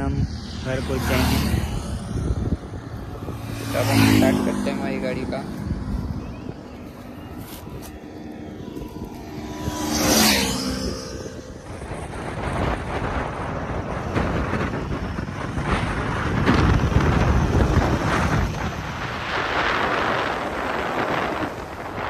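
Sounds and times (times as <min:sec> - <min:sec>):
motorcycle engine revving: 0:00.0 - 0:22.0
road noise: 0:00.0 - 0:22.0
wind noise on microphone: 0:00.0 - 0:22.0.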